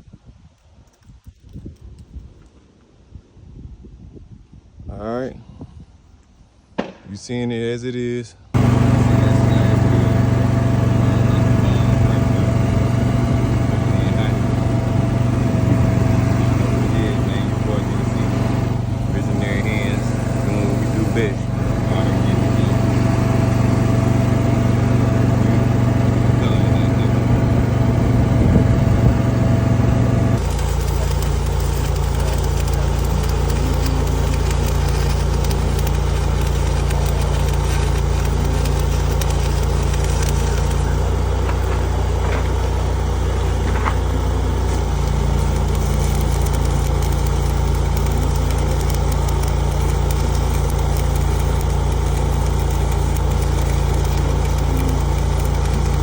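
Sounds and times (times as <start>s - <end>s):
engine idling: 8.6s - 56.0s.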